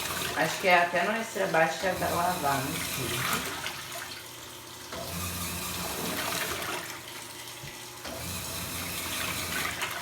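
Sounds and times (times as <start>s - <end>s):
water swishing in washing machine: 0.0s - 10.0s.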